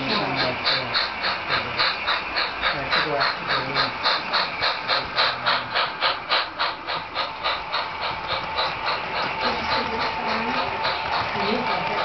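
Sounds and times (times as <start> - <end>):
model steam locomotive chuffing: 0.0 - 12.0.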